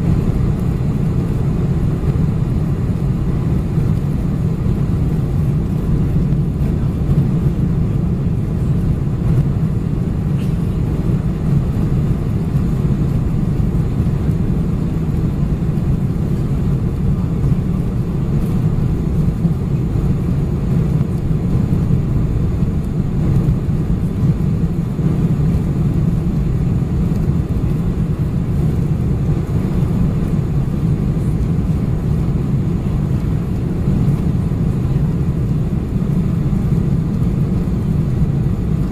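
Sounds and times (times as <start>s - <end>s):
airliner engines rumbling in cabin: 0.0s - 38.9s.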